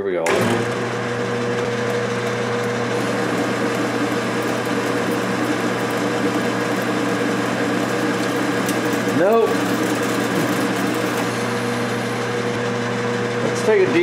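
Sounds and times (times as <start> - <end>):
metal lathe running: 0.2 - 14.0.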